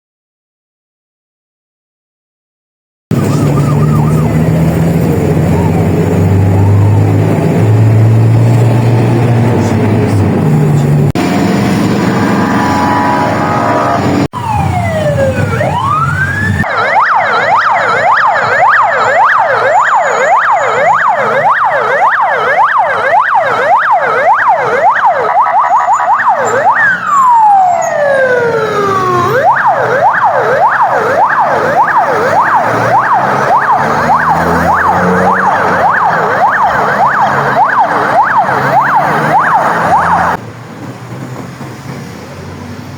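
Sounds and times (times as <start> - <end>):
ambulance siren: 3.1 - 9.7, 11.1 - 40.4.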